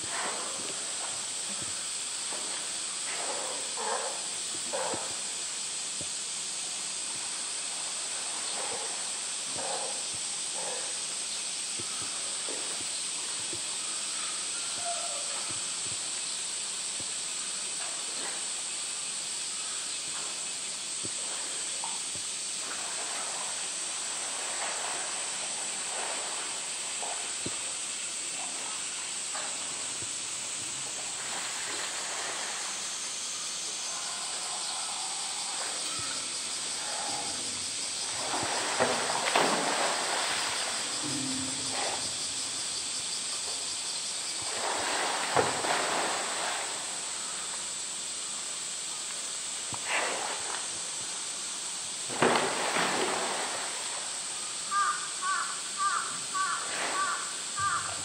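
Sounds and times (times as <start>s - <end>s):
faint water splashes: 0.0s - 11.0s, 11.7s - 58.0s
high-pitched outdoor hiss: 0.0s - 58.0s.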